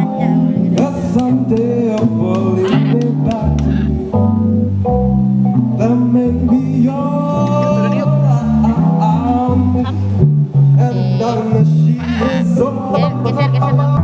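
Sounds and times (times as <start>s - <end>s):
song with guitar and singing: 0.0s - 4.4s, 5.7s - 14.0s.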